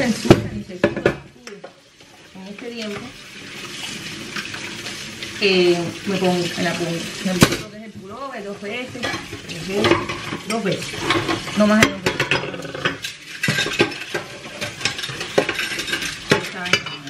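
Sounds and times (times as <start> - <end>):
dishes clinking against sink: 0.0 - 3.1, 6.1 - 17.0
tap water running into sink: 0.0 - 17.0.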